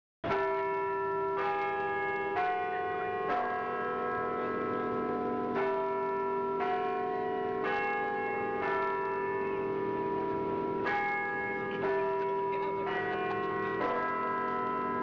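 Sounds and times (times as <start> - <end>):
church bells pealing: 0.2 - 15.0.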